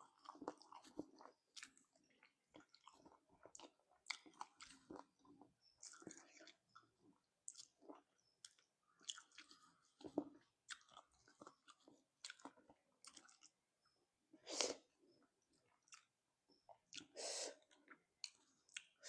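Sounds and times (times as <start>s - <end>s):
wet chewing mouth sounds: 0.0s - 13.6s, 15.6s - 16.1s, 16.8s - 19.0s.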